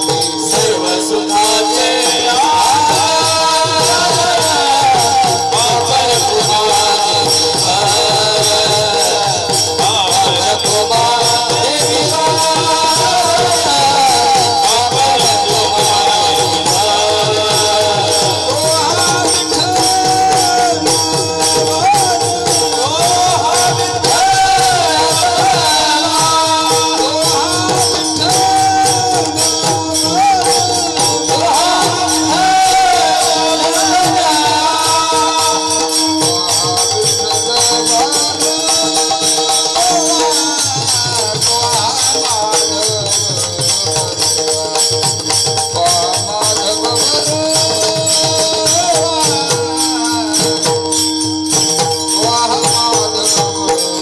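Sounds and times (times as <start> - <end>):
voices singing devotional melody: 0.0 - 54.0.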